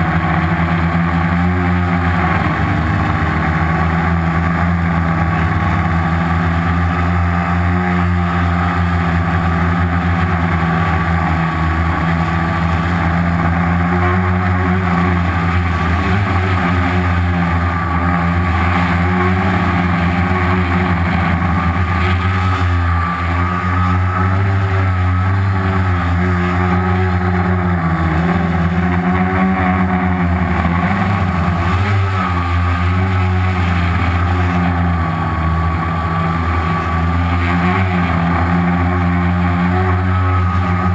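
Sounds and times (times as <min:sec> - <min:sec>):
quadcopter motors humming: 0:00.0 - 0:40.9.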